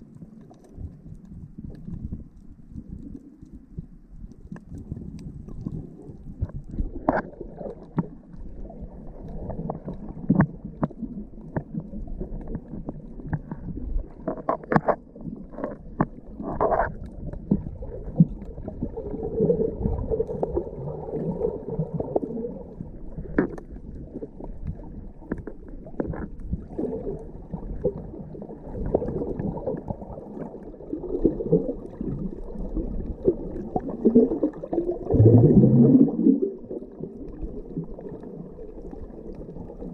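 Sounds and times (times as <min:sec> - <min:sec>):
underwater swishing and gurgling: 0:00.0 - 0:39.9.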